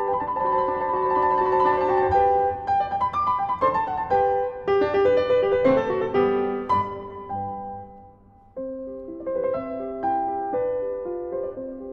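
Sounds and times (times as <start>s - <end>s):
solo piano music: 0.0s - 11.9s.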